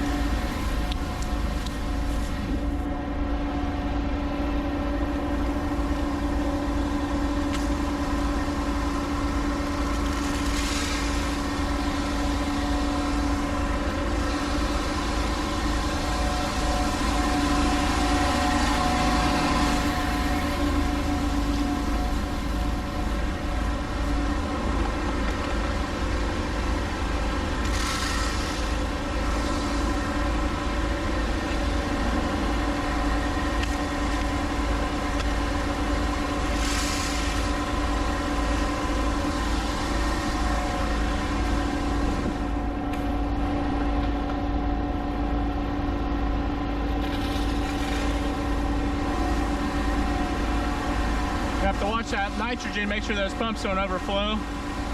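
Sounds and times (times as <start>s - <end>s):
heavy engine humming: 0.0s - 54.9s.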